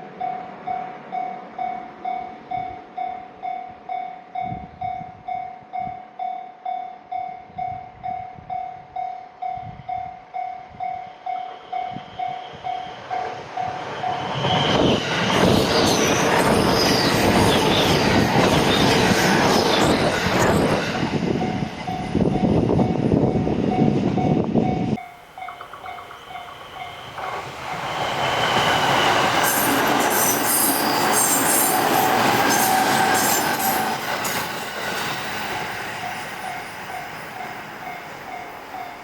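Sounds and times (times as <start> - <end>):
train passing: 0.0 - 5.9, 8.4 - 39.0.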